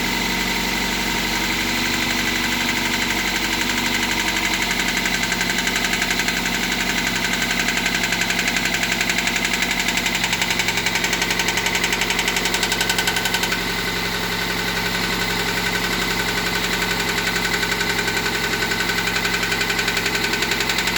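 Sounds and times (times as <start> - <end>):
car engine knocking: 0.0 - 20.9.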